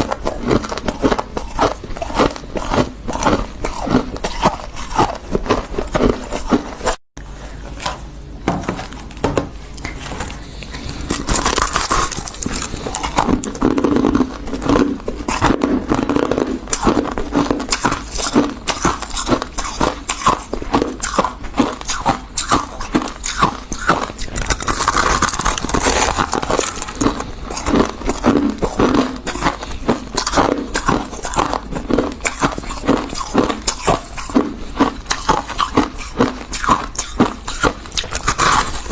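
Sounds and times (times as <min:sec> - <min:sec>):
crunching and chewing frost: 0:00.0 - 0:07.0, 0:08.9 - 0:38.9.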